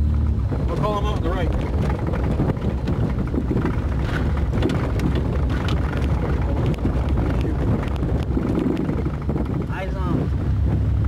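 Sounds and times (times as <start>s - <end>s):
car engine and road rumble: 0.0s - 11.0s
faint clicks and rattles: 0.7s - 10.1s.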